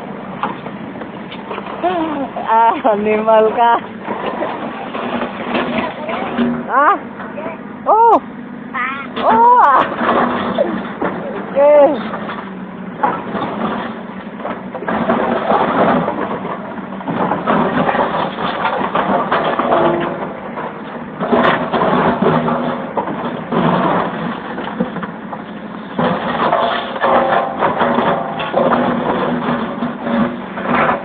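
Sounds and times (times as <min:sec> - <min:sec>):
backhoe engine running: 0:00.0 - 0:31.0.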